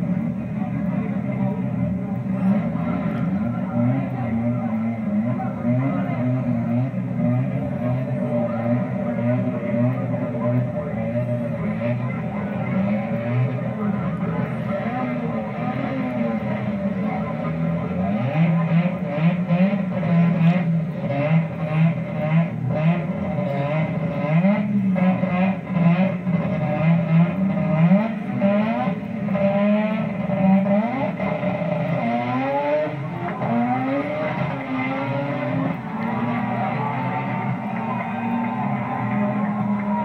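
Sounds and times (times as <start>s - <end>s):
race car engine revving: 0.0s - 40.0s.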